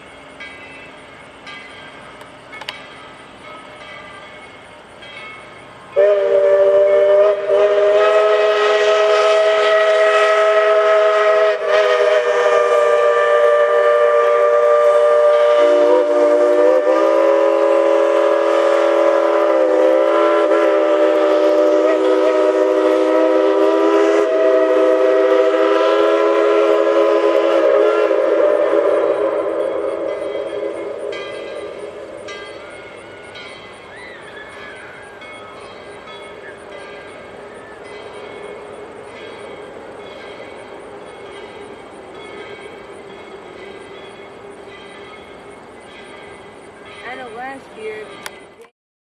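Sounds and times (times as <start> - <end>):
steam locomotive whistles chord: 0.0 - 48.7.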